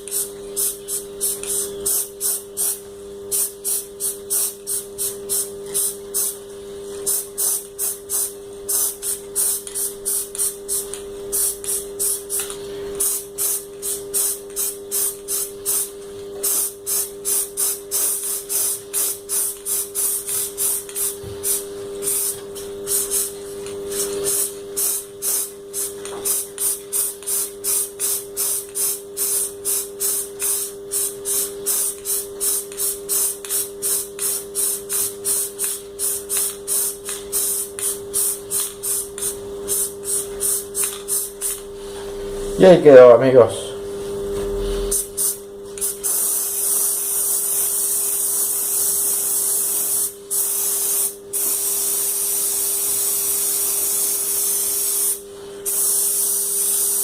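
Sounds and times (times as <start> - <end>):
spray paint can hissing: 0.0 - 41.7, 44.9 - 57.0.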